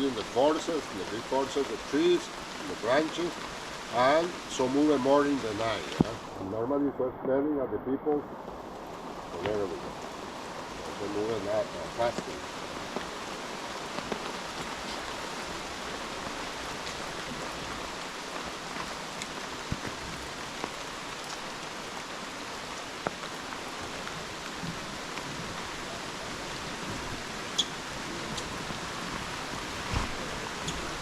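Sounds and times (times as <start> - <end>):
rain on foliage: 0.0 - 31.0.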